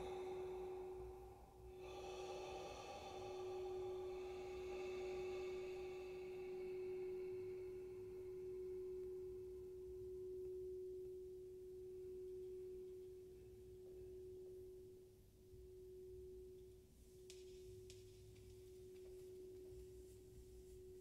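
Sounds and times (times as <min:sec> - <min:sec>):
crystal singing bowl ringing: 0:00.0 - 0:20.3.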